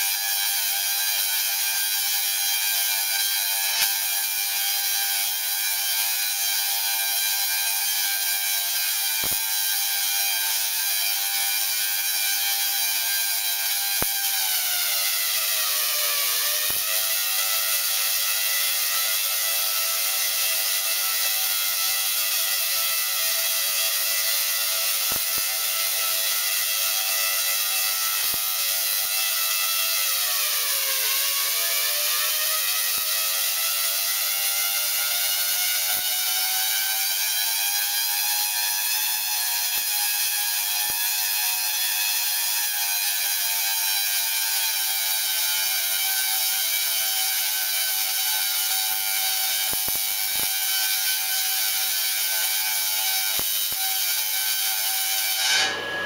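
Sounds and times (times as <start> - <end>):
tesla coil buzzing: 0.0 - 42.5, 44.3 - 55.9.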